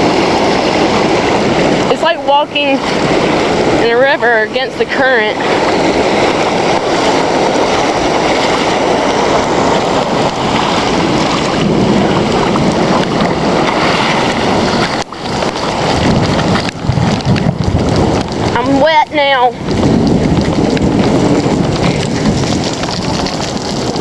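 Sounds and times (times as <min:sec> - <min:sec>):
floodwater rushing down street: 0:00.0 - 0:24.0
heavy rain falling: 0:00.0 - 0:24.0.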